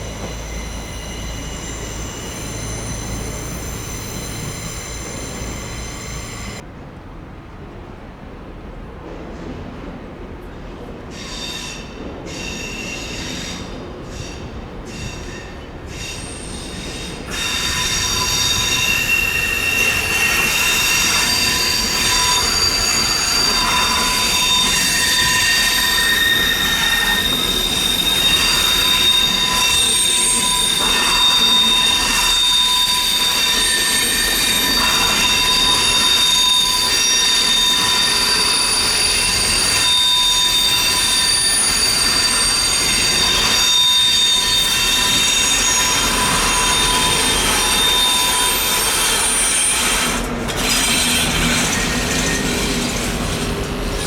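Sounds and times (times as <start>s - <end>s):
train wheels squealing on rails: 0.0s - 6.6s, 10.5s - 54.0s
train rumbling by: 0.0s - 54.0s.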